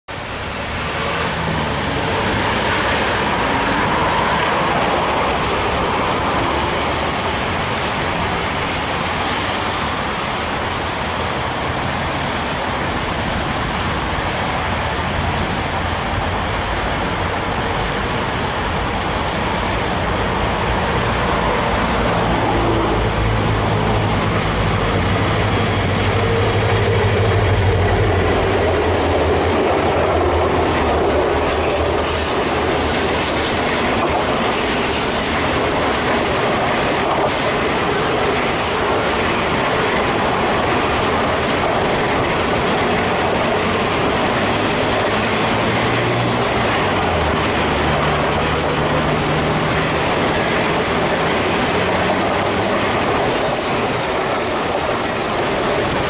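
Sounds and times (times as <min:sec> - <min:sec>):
steady rushing noise: 0:00.1 - 0:54.3
diesel locomotive engine drone: 0:00.1 - 0:56.0.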